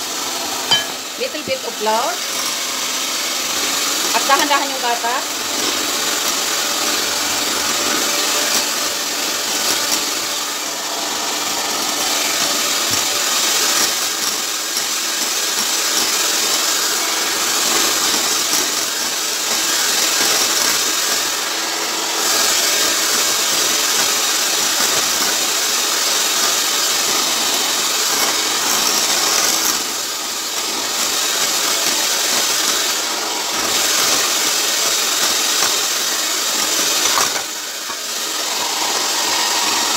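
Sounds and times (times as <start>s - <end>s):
electric hand mixer whirring: 0.0s - 39.9s.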